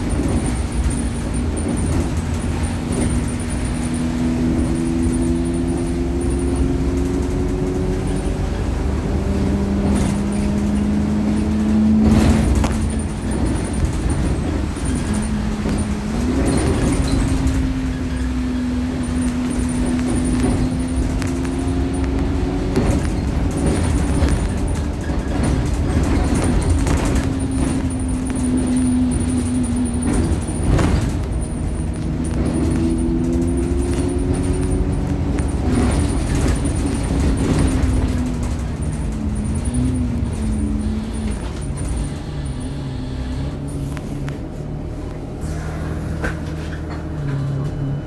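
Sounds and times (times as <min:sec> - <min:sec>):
bus engine hum: 0:00.0 - 0:48.0
road rumble: 0:00.0 - 0:48.0.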